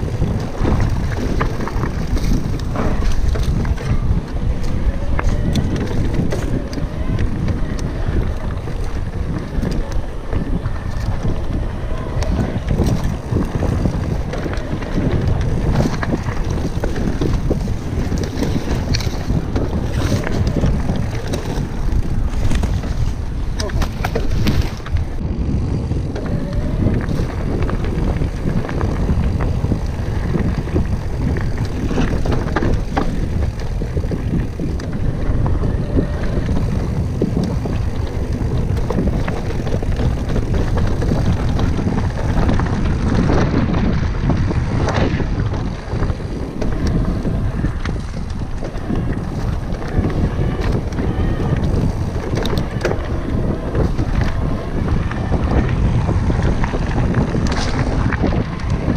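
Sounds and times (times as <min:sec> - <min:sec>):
bike rattling clicks and knocks: 0:00.0 - 0:58.9
bike tyre noise on gravel: 0:00.0 - 0:58.9
wind rushing over microphone: 0:00.0 - 0:58.9.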